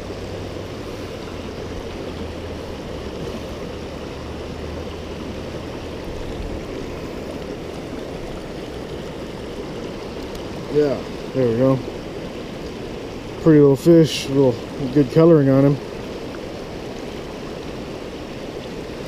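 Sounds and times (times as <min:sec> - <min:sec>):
stream flowing over rocks: 0:00.0 - 0:19.0.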